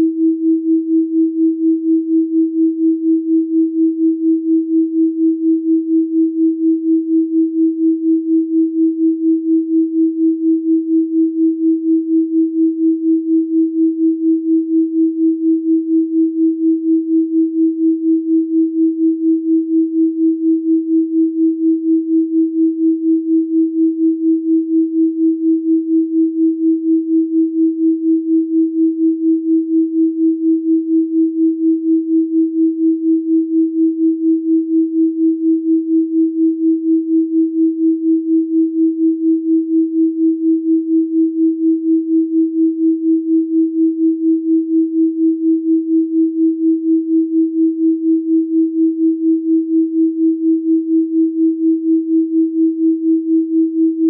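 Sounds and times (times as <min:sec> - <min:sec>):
pulsing sine tone: 0:00.0 - 0:54.0.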